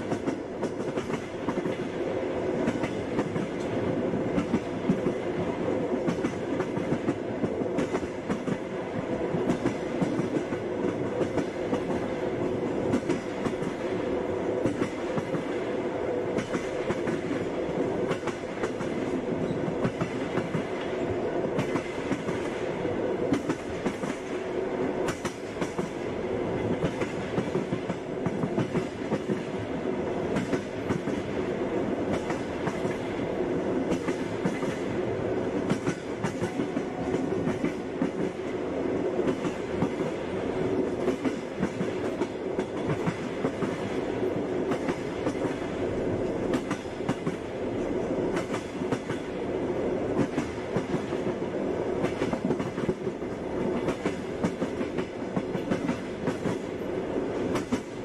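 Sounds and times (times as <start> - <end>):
train wheels clattering: 0.0 - 13.9, 14.6 - 22.7, 23.3 - 24.4, 25.0 - 47.4, 48.3 - 49.4, 52.0 - 56.8, 57.4 - 58.0
train rumble: 0.0 - 58.0.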